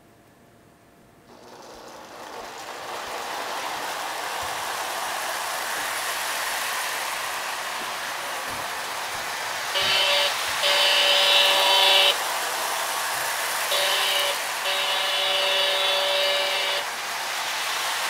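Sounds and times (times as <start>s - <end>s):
model train hissing whir: 1.3s - 18.0s.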